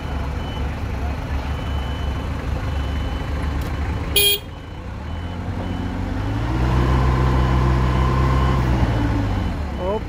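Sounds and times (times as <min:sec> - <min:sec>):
forklift engine revving: 0:01.2 - 0:09.8.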